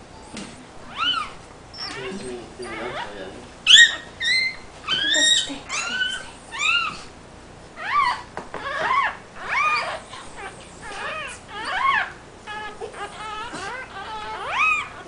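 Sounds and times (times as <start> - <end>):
newborn puppy squealing: 0.9 - 7.1, 7.8 - 15.0.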